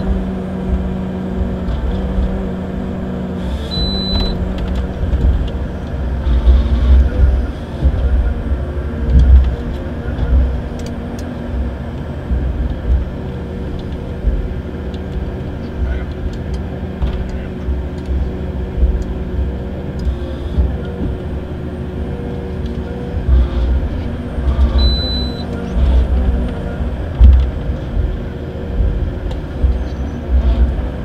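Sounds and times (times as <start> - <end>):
engine and hydraulics hum: 0.0 - 31.0
low machinery rumble: 0.0 - 31.0.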